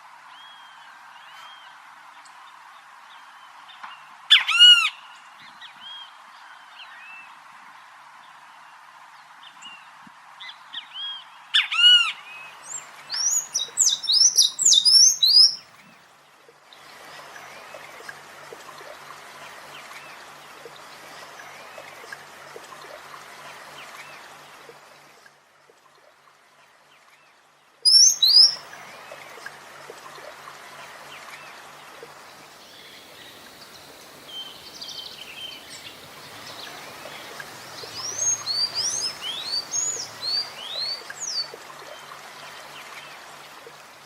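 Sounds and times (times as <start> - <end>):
songbirds chirping: 4.9 - 25.2, 26.2 - 44.0.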